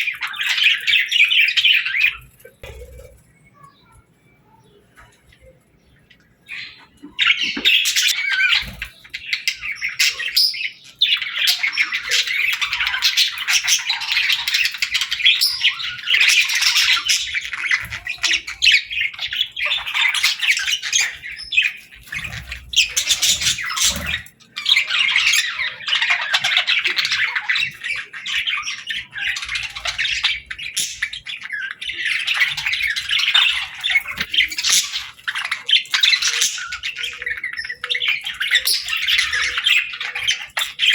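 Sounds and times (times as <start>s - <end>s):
budgerigars chattering: 0.0s - 4.0s, 6.5s - 40.9s.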